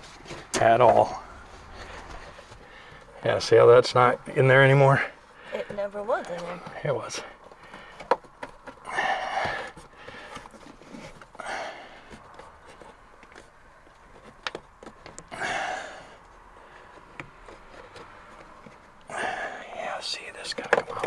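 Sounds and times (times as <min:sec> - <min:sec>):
effort breaths: 0:00.1 - 0:21.0.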